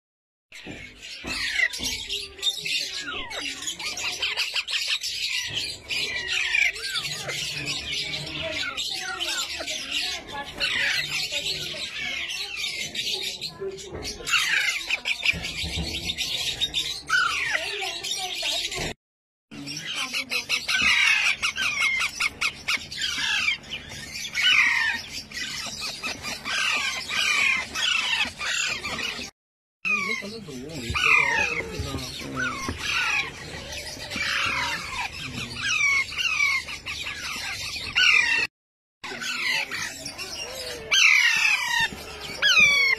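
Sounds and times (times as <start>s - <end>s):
parakeets chattering and squawking: 0.6s - 42.9s.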